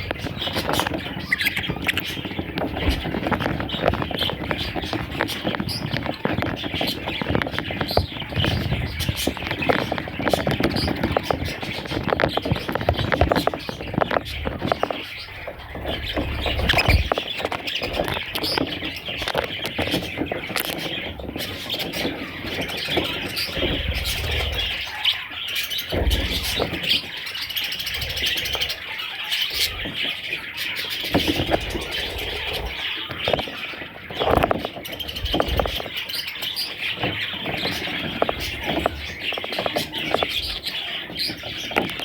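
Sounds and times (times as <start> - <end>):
budgerigars chattering: 0.0 - 42.0.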